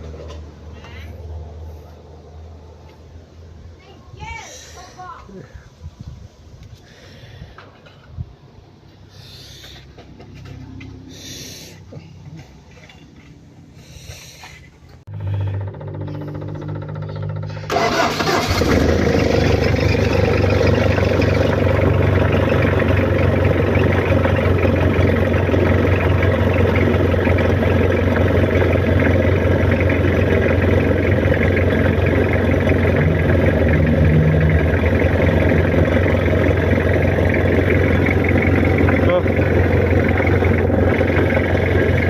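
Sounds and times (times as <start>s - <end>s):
van engine starting and running: 0.0s - 3.8s, 6.7s - 42.0s.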